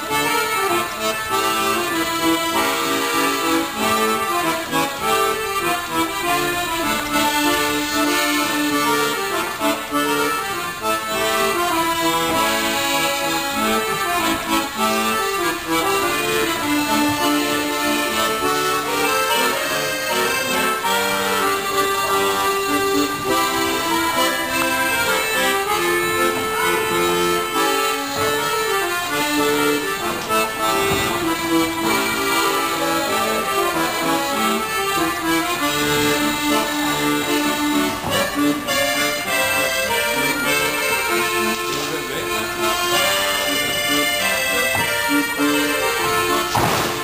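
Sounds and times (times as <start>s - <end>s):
accordion playing dance tune: 0.0s - 47.0s.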